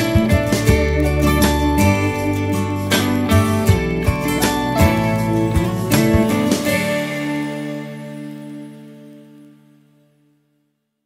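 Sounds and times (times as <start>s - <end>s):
instrumental music chord ringing: 0.0s - 10.6s.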